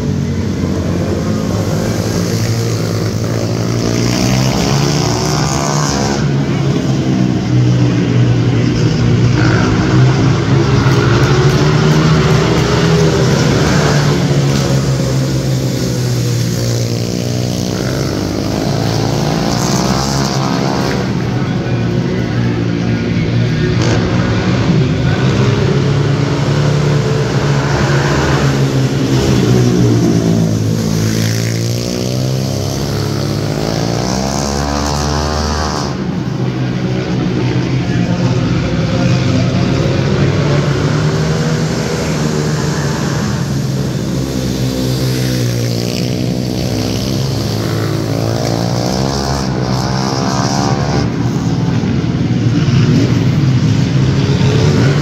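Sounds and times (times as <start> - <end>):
quad engines revving: 0.0 - 55.0.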